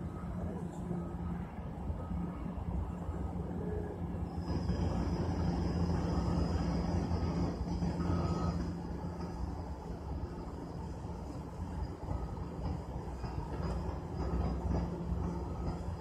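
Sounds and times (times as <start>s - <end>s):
distant heavy engines rumbling: 0.0s - 16.0s.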